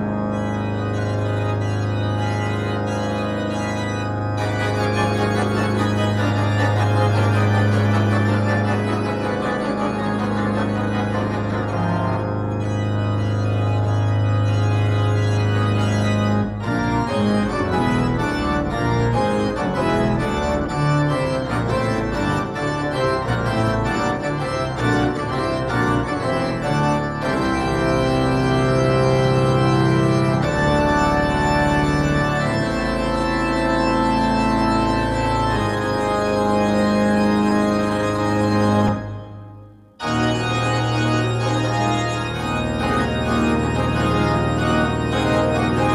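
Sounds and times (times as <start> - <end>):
church organ chords: 0.0 - 45.9.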